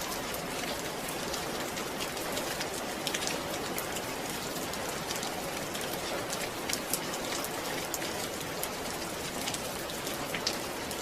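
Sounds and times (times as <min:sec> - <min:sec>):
raindrops pattering on a surface: 0:00.0 - 0:11.0
steady rain falling: 0:00.0 - 0:11.0.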